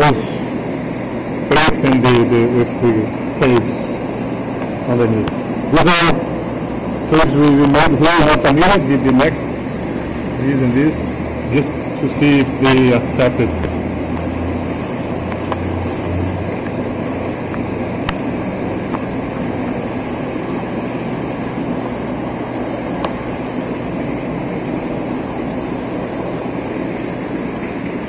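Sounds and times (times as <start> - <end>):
aquarium pumps and bubbling: 0.0 - 28.0
low hum: 0.0 - 28.0.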